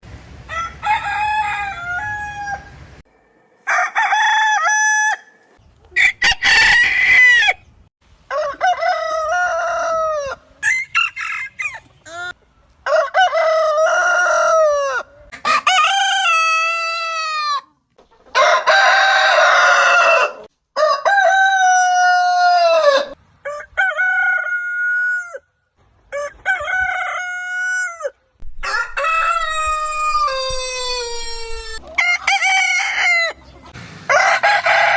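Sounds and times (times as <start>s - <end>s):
roosters crowing: 0.4s - 3.0s, 3.6s - 17.7s, 18.3s - 25.5s, 26.1s - 34.9s.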